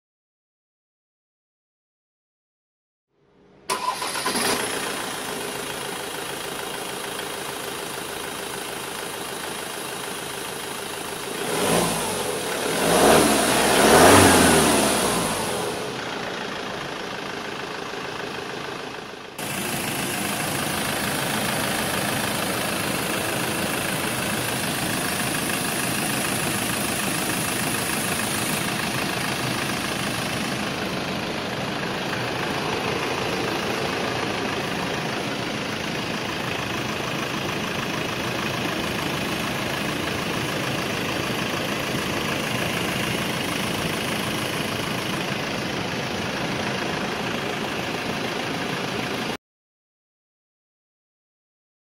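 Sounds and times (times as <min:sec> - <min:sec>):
diesel engine idling: 0:03.7 - 0:49.4.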